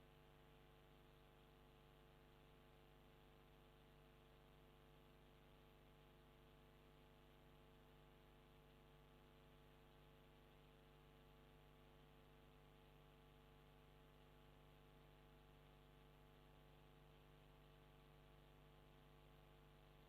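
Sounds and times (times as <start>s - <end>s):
faint electrical hum and hiss: 0.0s - 20.0s.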